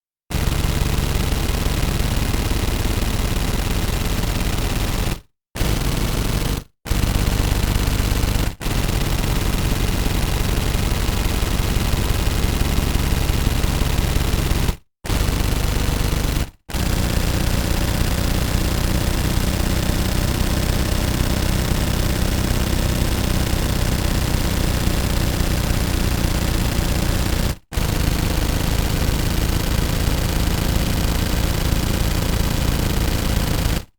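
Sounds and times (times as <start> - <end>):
automatic gun firing bursts: 0.3 - 33.9.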